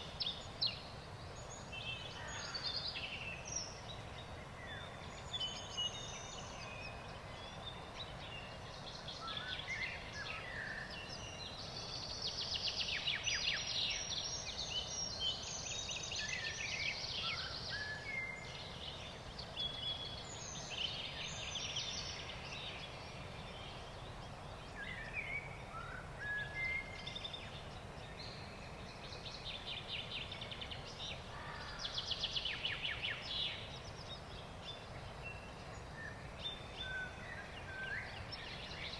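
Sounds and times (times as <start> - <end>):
low background noise: 0.0 - 38.9
songbirds singing and trilling: 0.0 - 38.9.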